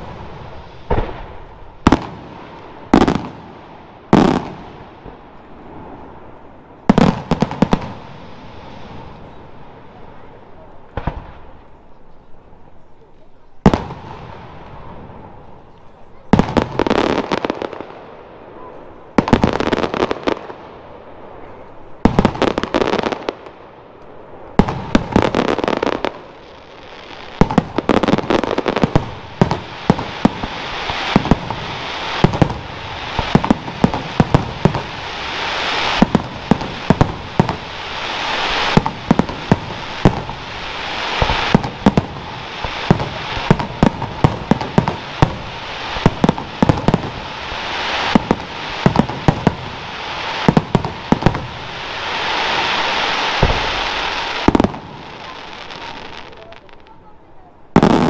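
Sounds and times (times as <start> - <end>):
fireworks bursting: 0.0 - 58.0
fireworks crackling: 0.0 - 58.0.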